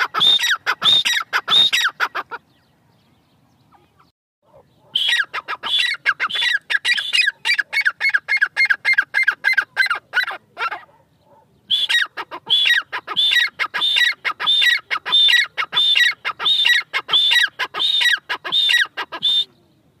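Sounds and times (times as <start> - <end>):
bird calling with harsh repeated notes: 0.0 - 19.9.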